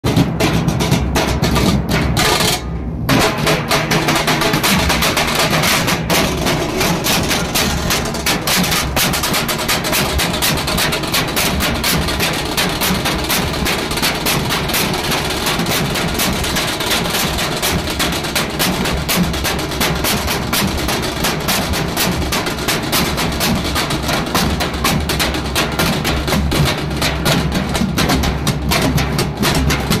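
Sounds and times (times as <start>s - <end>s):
barrel drums beaten with sticks: 0.0s - 30.0s
smaller drums played with thin sticks: 0.0s - 30.0s.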